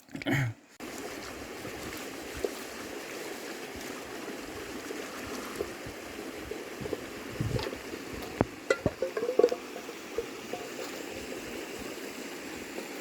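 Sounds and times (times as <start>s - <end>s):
running water rushing: 0.8s - 13.0s.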